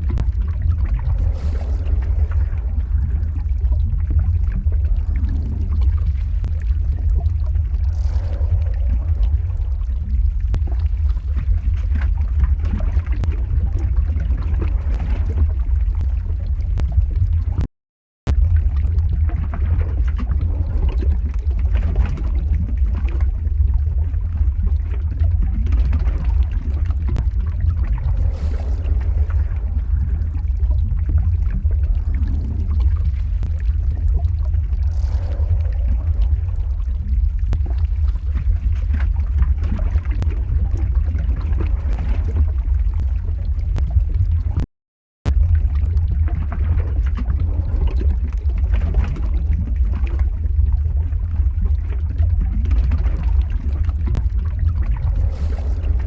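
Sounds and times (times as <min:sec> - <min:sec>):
lava crackling and bubbling: 0:00.0 - 0:56.0
lava deep rumble: 0:00.0 - 0:56.0.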